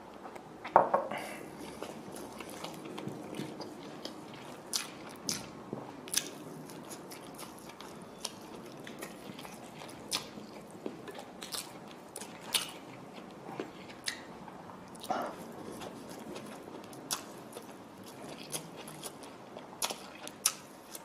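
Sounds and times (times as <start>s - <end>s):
person chewing with lip smacks: 1.6s - 14.3s, 14.9s - 21.0s.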